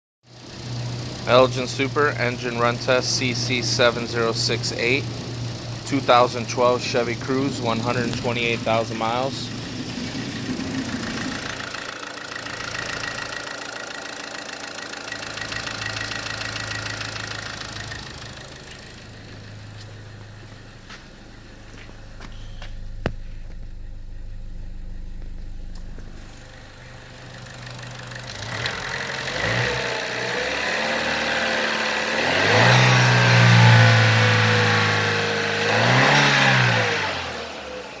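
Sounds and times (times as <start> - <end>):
car engine idling and revving: 0.3 - 38.0.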